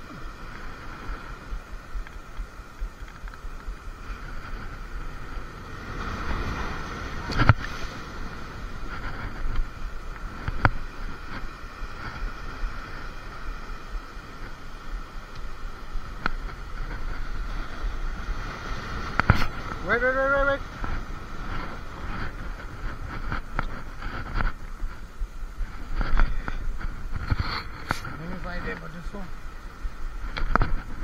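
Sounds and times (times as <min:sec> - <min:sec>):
faint constant hum: 0:00.0 - 0:31.0
sea noise: 0:00.0 - 0:31.0
wind: 0:00.0 - 0:31.0.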